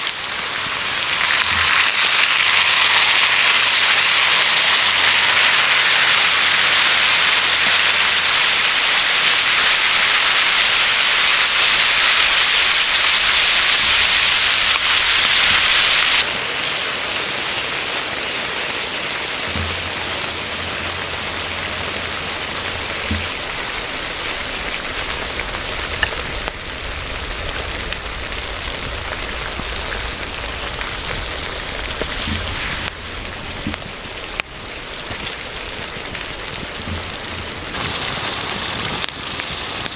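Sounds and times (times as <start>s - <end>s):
steady hissing noise: 0.0s - 39.9s.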